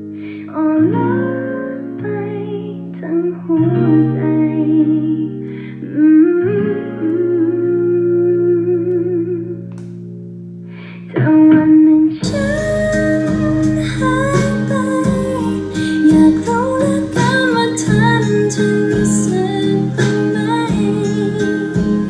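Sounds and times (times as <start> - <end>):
song with guitar and singing: 0.0 - 10.1, 10.7 - 22.0.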